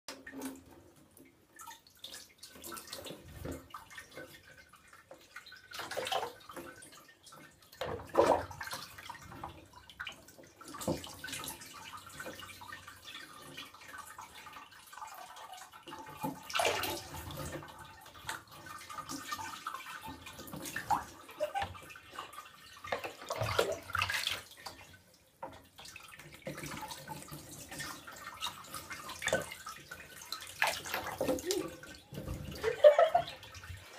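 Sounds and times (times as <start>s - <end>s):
bath water sloshing and splashing: 0.1s - 33.9s.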